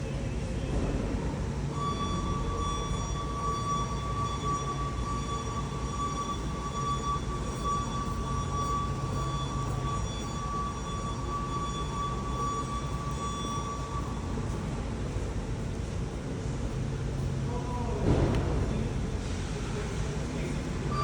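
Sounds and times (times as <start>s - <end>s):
high-pitched whine: 0.1s - 18.2s, 19.8s - 21.0s.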